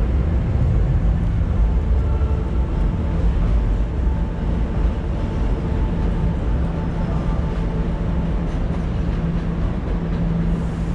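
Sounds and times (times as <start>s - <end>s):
electric train rumble: 0.0s - 10.9s.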